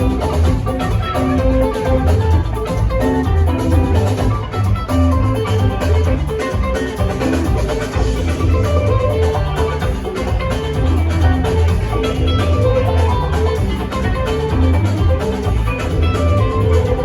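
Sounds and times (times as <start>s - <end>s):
funk band playing: 0.0s - 17.0s.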